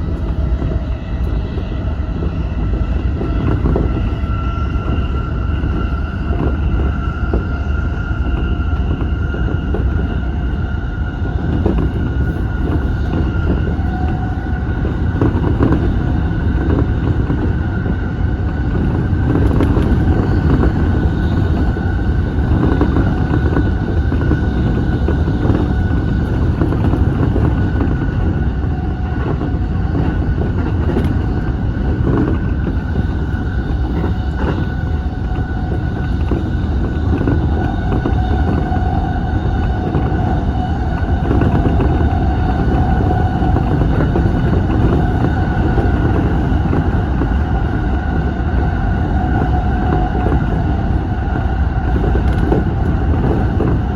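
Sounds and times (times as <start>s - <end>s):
high whine: 0.0s - 53.9s
train wheels rumbling on rail: 0.0s - 53.9s.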